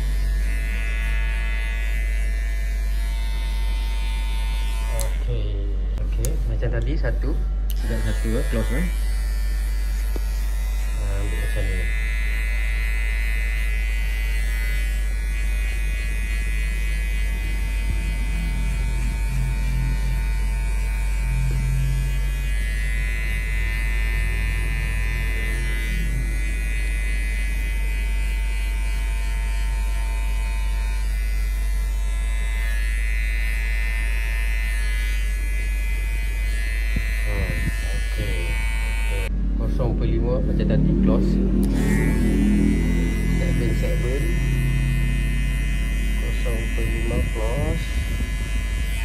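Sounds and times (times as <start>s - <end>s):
electric hair clipper buzzing: 0.0s - 49.0s.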